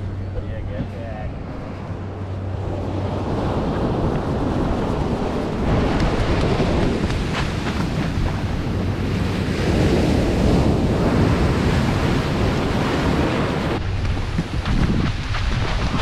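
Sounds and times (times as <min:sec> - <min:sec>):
waves crashing: 0:00.0 - 0:16.0
wind buffeting on microphone: 0:00.0 - 0:16.0.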